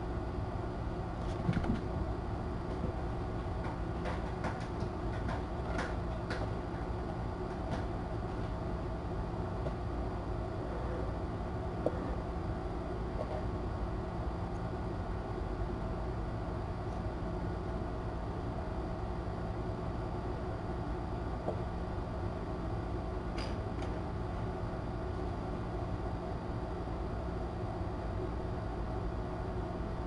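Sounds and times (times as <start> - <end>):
low room hum and hiss: 0.0 - 30.0.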